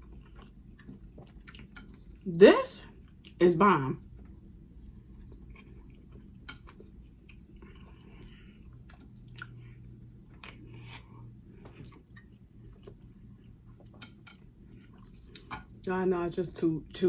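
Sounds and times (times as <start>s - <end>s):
person chewing: 0.0s - 2.2s, 4.1s - 15.8s.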